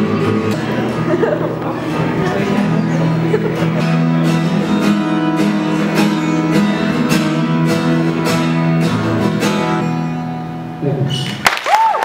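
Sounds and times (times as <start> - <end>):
acoustic guitar strumming: 0.0 - 11.5.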